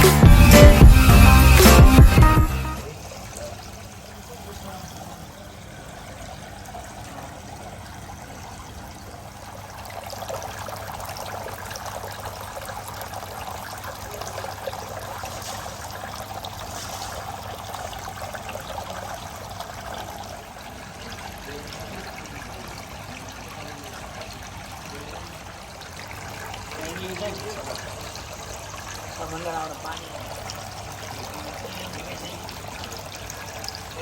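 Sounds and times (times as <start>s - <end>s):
water fountain trickling: 0.0s - 34.0s.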